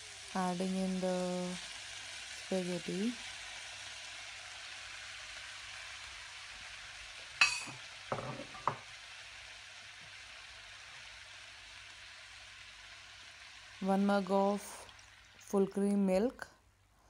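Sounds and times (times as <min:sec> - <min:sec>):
food sizzling in oil: 0:00.0 - 0:16.3.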